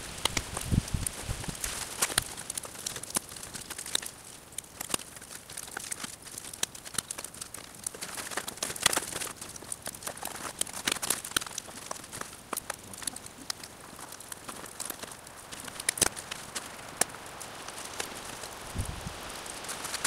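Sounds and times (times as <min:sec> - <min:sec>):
birch bark crackling and rustling: 0:00.0 - 0:20.0.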